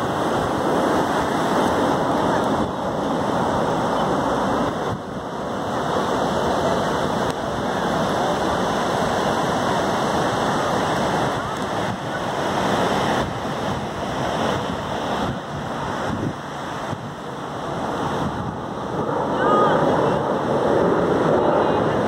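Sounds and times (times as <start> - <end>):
surf breaking on beach: 0.0 - 22.0
wind buffeting microphone: 0.0 - 22.0.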